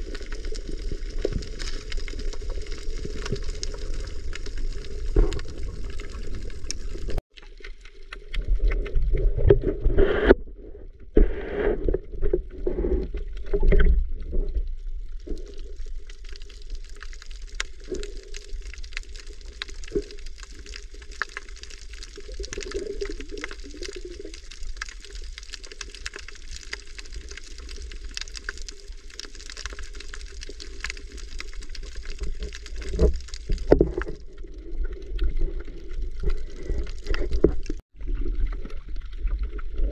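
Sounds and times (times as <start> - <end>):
fine underwater crackle: 0.0 - 39.9
underwater sloshing and rumbling: 0.0 - 39.9.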